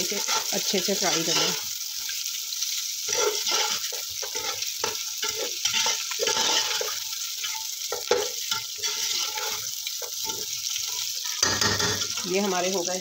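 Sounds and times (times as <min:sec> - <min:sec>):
meat sizzling in hot oil: 0:00.0 - 0:13.0
metal ladle scraping a pot: 0:00.1 - 0:01.6, 0:03.1 - 0:12.3.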